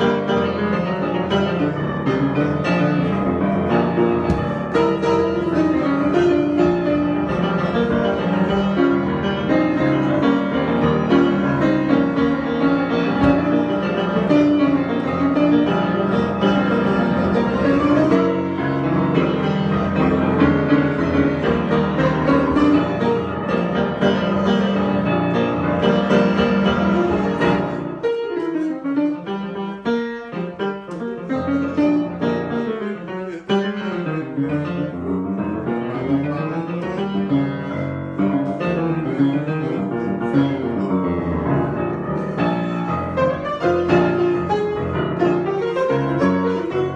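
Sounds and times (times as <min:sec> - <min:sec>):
improvised piano music: 0:00.0 - 0:46.9.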